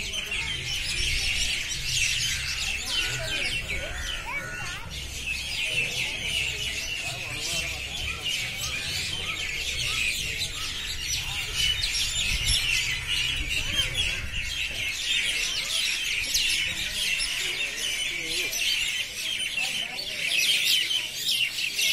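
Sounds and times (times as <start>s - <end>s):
flock of birds chirping: 0.0s - 21.9s.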